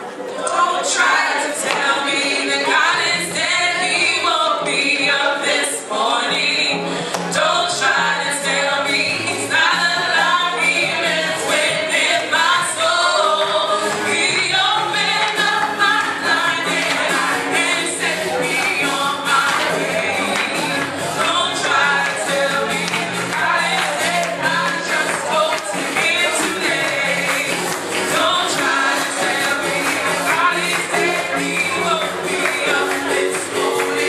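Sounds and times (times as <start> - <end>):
choir singing in harmony: 0.0 - 34.0.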